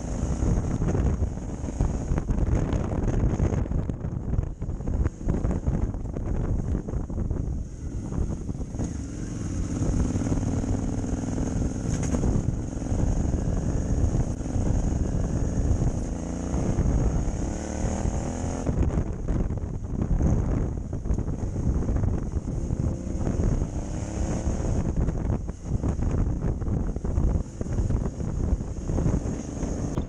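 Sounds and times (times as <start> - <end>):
motorcycle engine running: 0.0 - 30.0
wind rumble on microphone: 0.0 - 30.0.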